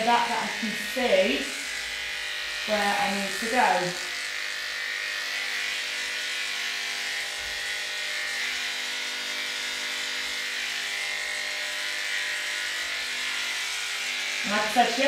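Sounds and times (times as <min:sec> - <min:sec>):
electric dog clippers buzzing: 0:00.0 - 0:15.0.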